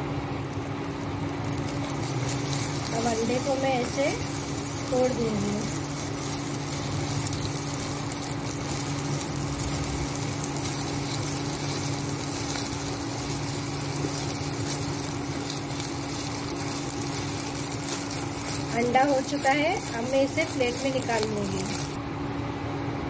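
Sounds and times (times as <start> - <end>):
egg sizzling in oil: 0.0 - 22.0
cooktop low hum: 0.0 - 23.0.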